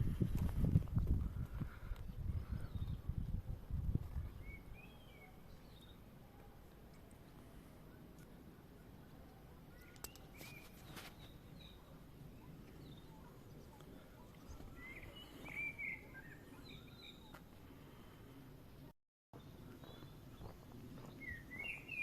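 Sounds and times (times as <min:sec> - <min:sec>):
small birds chirping: 0:00.1 - 0:18.2, 0:19.4 - 0:22.0.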